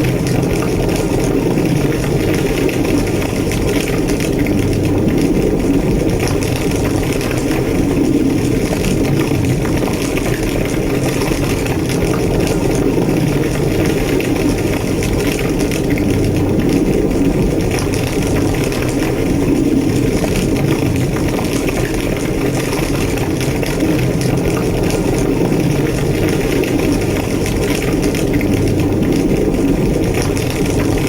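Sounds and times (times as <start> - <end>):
large fire roaring and crackling: 0.0 - 31.0.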